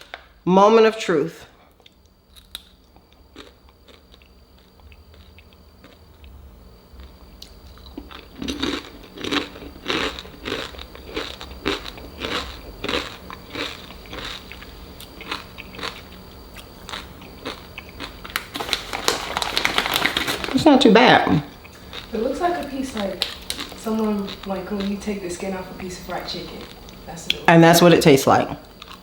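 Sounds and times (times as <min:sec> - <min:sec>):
crunching and chewing crispy food: 0:01.6 - 0:27.0, 0:28.6 - 0:29.0.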